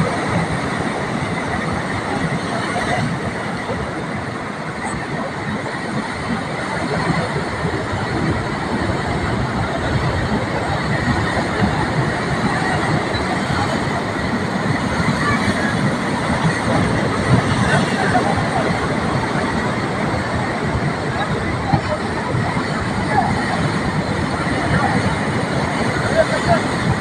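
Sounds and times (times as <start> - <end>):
surf roaring: 0.0 - 27.0.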